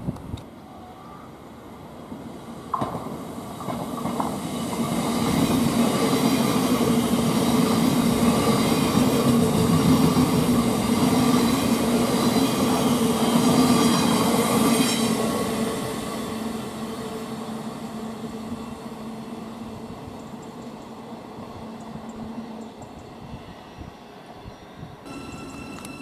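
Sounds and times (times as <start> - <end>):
train wheels on rail: 1.7 - 26.0.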